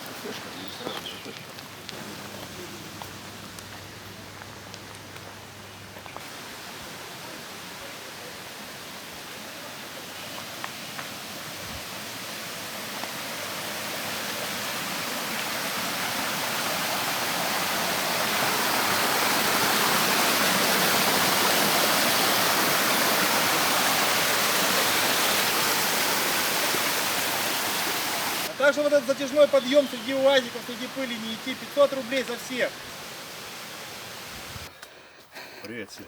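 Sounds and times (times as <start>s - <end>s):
waterfall rushing: 0.0s - 3.7s, 6.2s - 34.7s.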